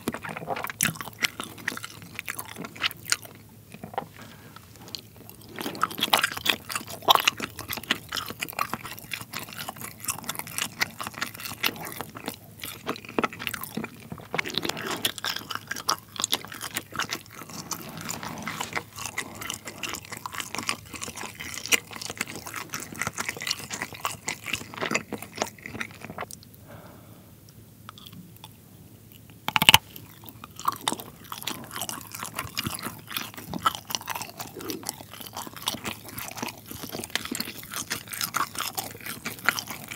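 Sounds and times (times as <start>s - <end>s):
wet chewing mouth clicks: 0.0s - 26.6s, 27.9s - 39.9s.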